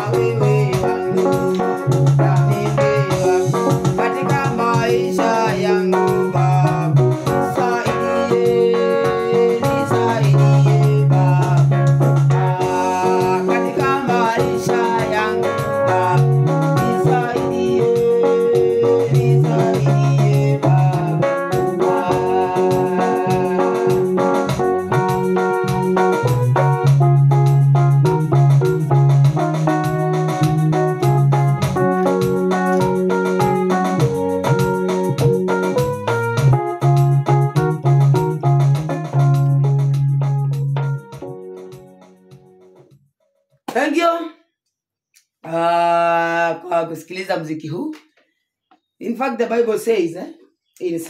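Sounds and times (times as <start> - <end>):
electronic keyboard gospel tune: 0.0 - 44.4.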